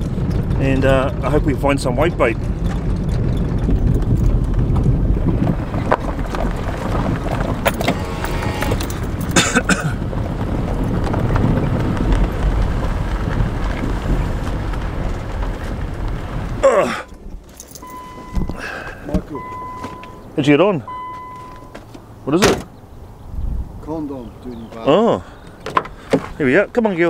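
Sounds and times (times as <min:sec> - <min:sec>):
car engine and tyres on gravel: 0:00.0 - 0:27.0.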